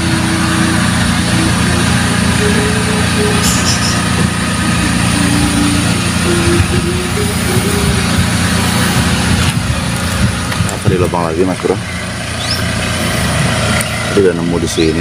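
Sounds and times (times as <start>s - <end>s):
water pump droning: 0.0s - 15.0s.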